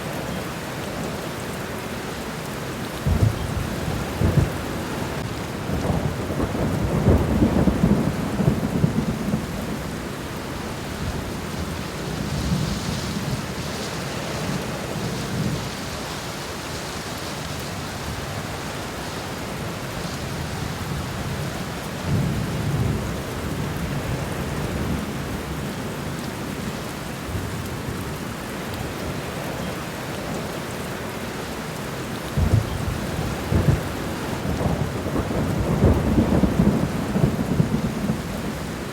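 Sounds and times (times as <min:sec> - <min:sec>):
rain falling on ground: 0:00.0 - 0:38.9.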